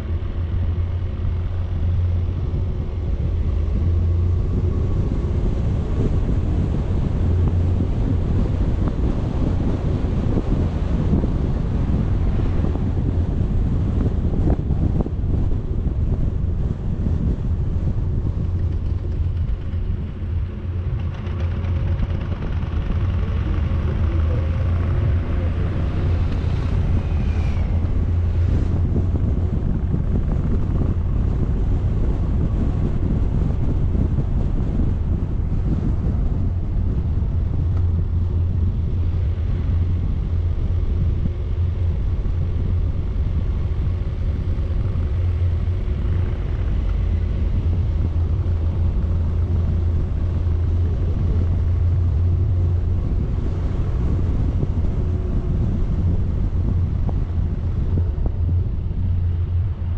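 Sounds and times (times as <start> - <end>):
faint rising whine: 0.0 - 59.9
vehicle engine and road noise: 0.0 - 59.9.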